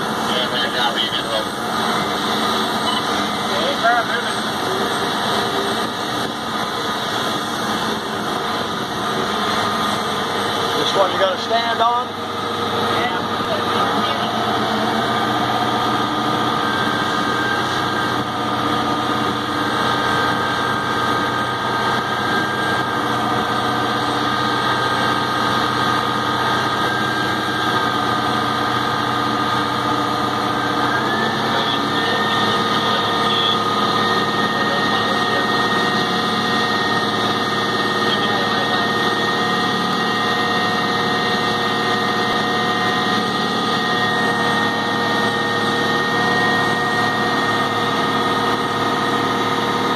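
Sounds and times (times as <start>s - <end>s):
steady whine: 0.0s - 49.9s
tug engine running under load: 0.0s - 49.9s.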